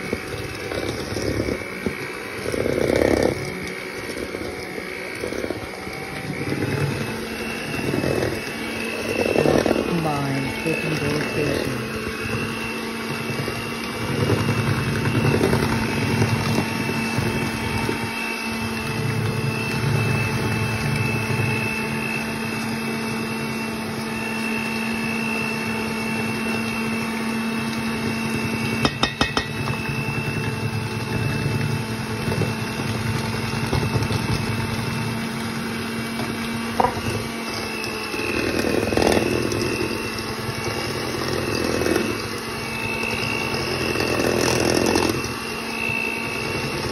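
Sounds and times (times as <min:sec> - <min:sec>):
electric hand mixer whining: 0:00.0 - 0:46.9.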